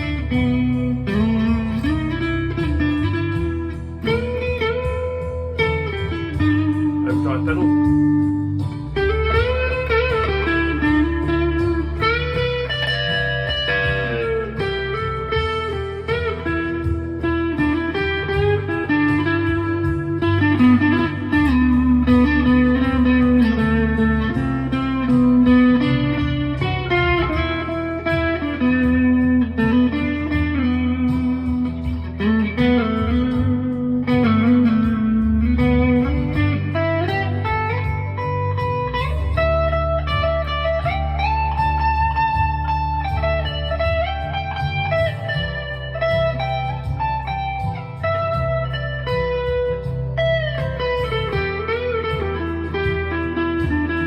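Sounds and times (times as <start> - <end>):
overdriven electric guitar lead: 0.0 - 54.0.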